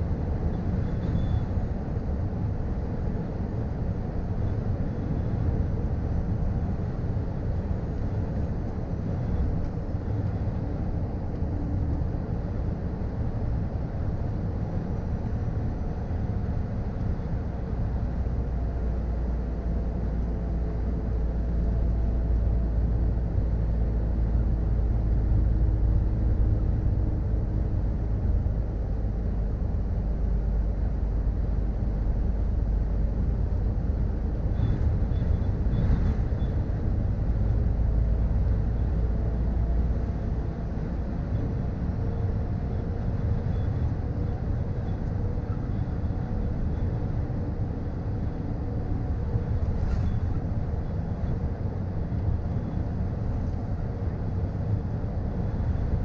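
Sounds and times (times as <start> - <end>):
road and tyre noise: 0.0 - 56.0
truck diesel engine under load: 0.0 - 56.0.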